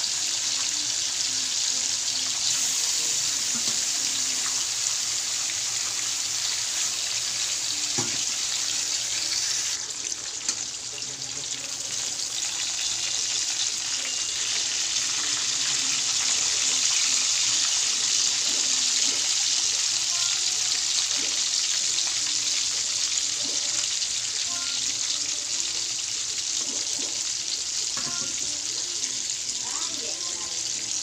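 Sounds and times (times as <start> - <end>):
meat sizzling in hot oil: 0.0 - 31.0.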